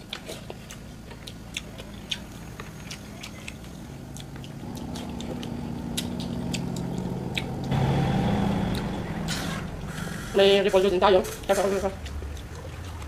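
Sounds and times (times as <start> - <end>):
chewing with mouth clicks: 0.0 - 13.0
low motor hum: 0.9 - 13.0.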